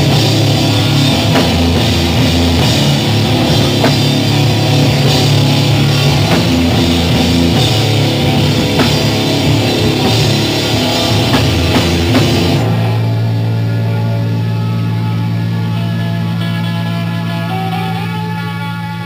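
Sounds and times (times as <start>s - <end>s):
bass guitar: 0.0s - 19.0s
distorted electric guitar: 0.0s - 19.0s
drum kit with crashing cymbals: 0.0s - 19.0s.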